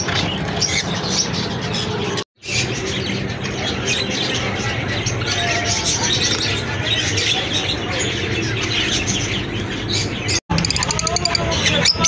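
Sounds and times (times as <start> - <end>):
caged sparrows chirping: 0.0 - 12.0.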